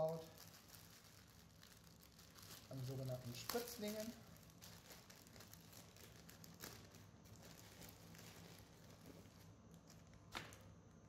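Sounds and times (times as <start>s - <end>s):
plastic bags crinkling: 0.0s - 10.7s.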